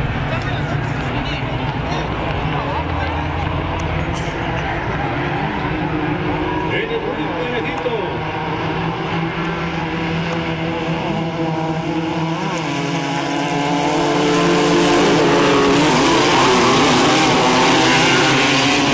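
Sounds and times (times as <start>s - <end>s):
race buggy engines revving: 0.0s - 18.9s.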